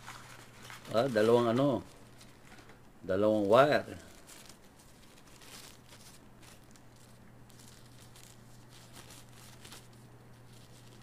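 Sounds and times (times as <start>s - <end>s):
rustles and ticks of handling: 0.0s - 2.8s, 3.9s - 11.0s
low electrical hum: 0.0s - 11.0s.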